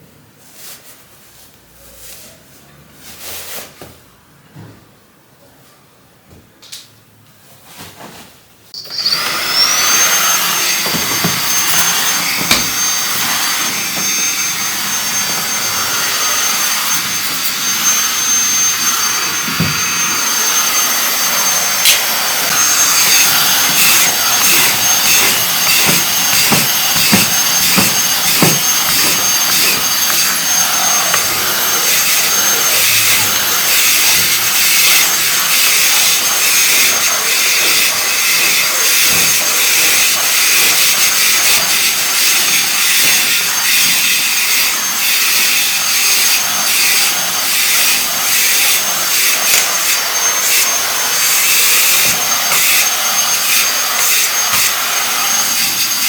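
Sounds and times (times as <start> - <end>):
vacuum cleaner running: 8.8 - 56.0.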